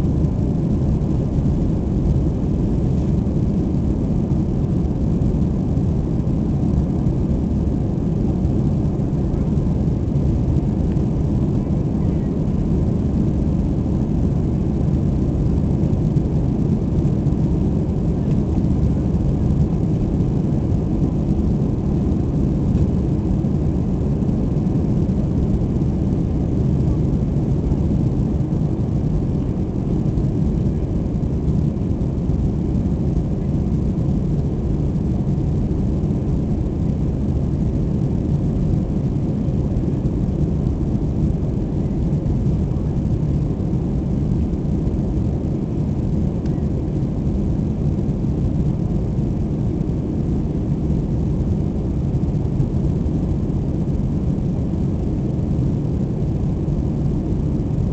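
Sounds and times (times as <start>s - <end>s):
jet engine cabin rumble: 0.0s - 57.9s.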